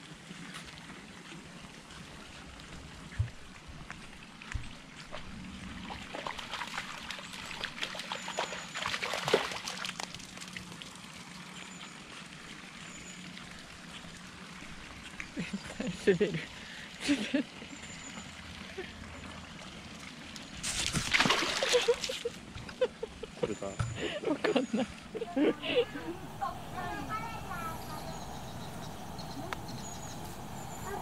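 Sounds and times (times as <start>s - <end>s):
water splashing and trickling: 0.0s - 23.3s, 25.1s - 31.0s.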